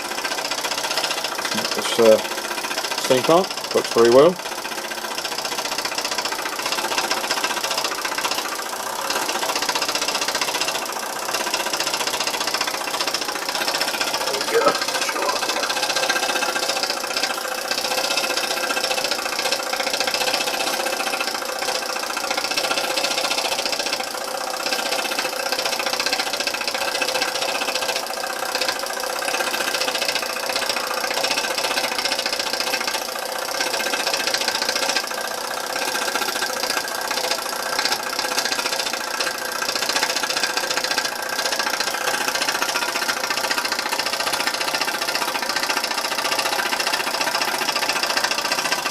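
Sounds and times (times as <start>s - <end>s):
model steam engine running: 0.0s - 48.9s.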